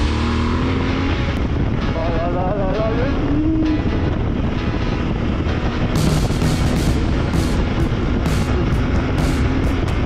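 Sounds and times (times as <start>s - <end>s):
motorcycle engine running: 0.0s - 10.0s
wind rush on microphone: 0.0s - 10.0s.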